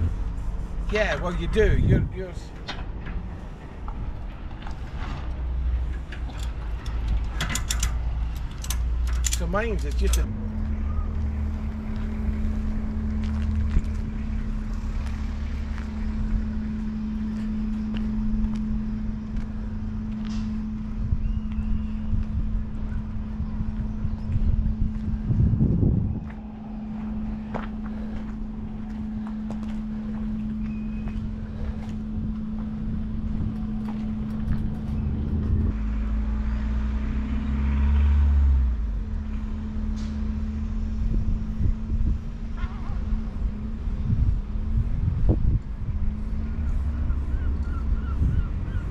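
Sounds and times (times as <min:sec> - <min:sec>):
low rumble: 0:00.0 - 0:48.9
steady engine hum: 0:00.0 - 0:48.9.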